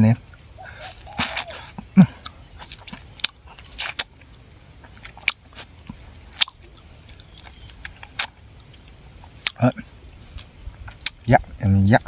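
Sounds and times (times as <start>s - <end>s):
person chewing honeycomb: 0.1s - 11.3s.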